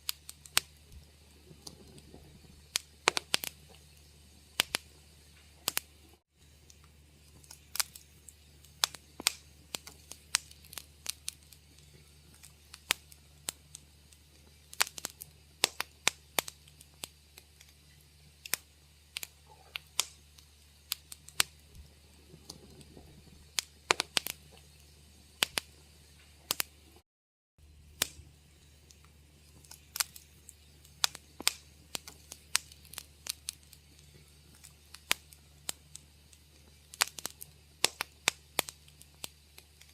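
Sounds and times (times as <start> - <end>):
steady low hum: 0.0 - 27.0, 27.6 - 39.9
wood fire crackling: 0.0 - 27.0, 27.6 - 39.9.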